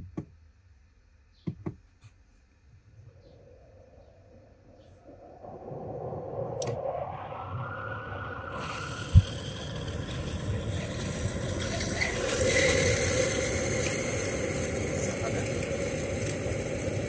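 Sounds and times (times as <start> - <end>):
blower fan whining and rushing air: 3.0 - 17.0.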